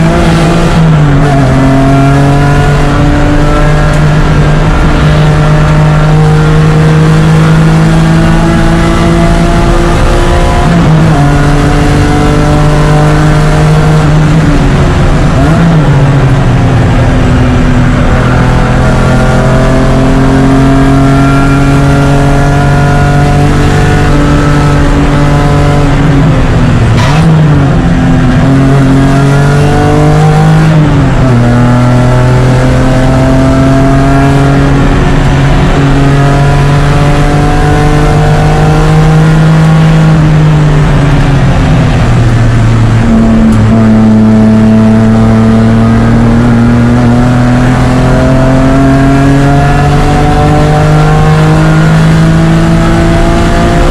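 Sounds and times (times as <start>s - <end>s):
race car engine at full throttle: 0.0s - 53.9s.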